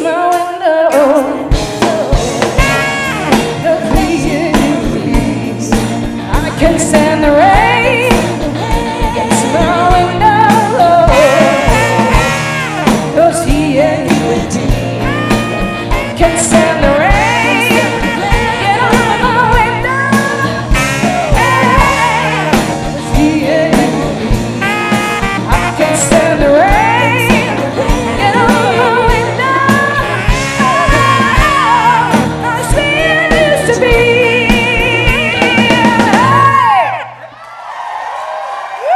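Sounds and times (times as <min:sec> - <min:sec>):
live band playing soul: 0:00.0 - 0:38.9.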